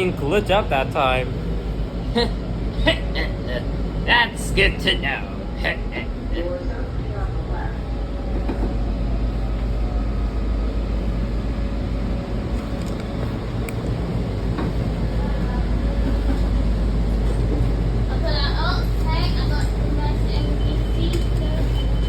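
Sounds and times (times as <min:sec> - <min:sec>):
train car rumble: 0:00.0 - 0:22.0.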